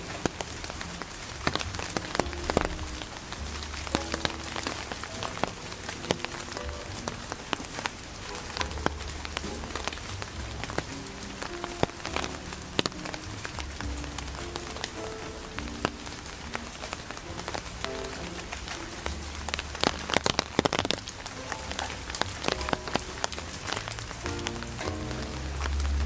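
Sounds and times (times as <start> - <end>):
soft background music: 0.0 - 26.0.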